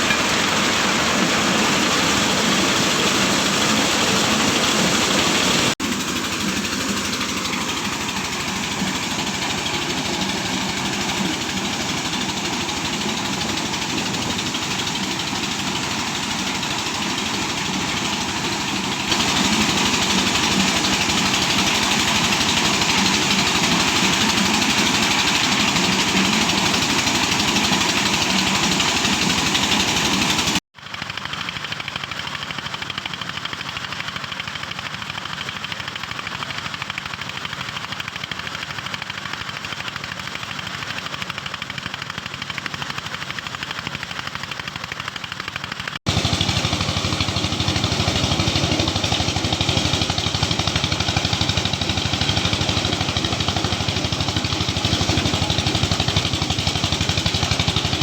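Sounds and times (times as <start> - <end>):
corn sheller rattling: 0.0 - 58.0.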